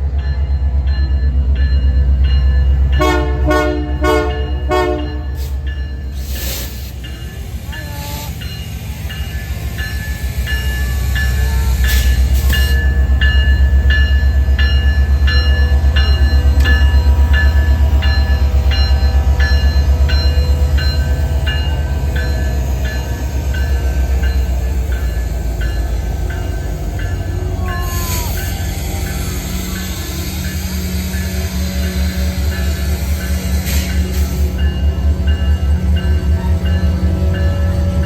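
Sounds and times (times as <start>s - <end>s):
locomotive rumble: 0.0s - 38.0s.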